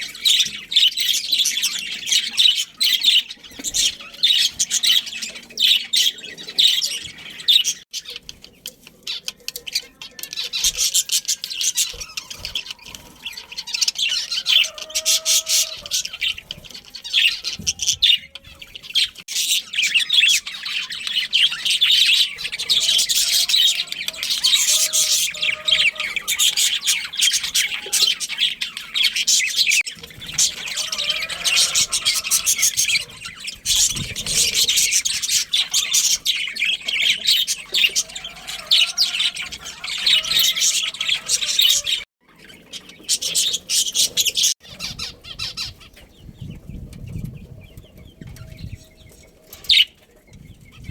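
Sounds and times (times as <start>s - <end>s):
budgerigars chirping and chattering: 0.0s - 50.9s.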